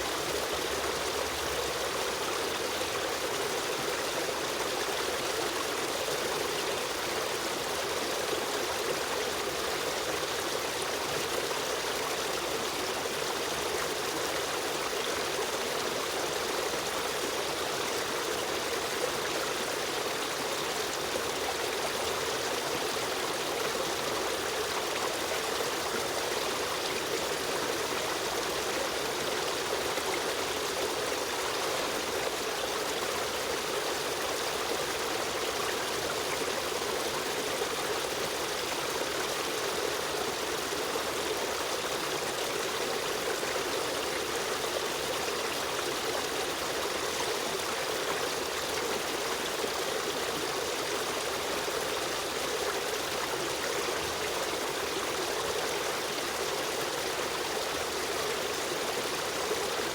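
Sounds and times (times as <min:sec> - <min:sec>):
river stream flowing: 0:00.0 - 0:59.9.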